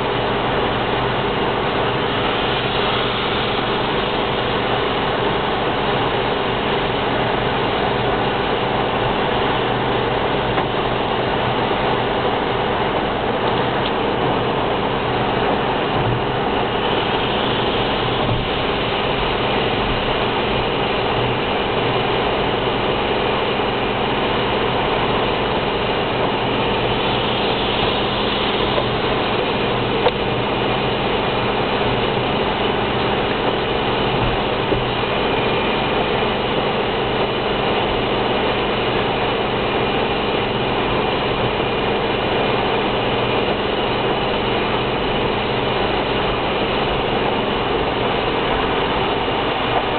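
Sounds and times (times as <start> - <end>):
car cabin road and engine noise: 0.0 - 49.9
tyres hissing on wet road: 0.0 - 49.9.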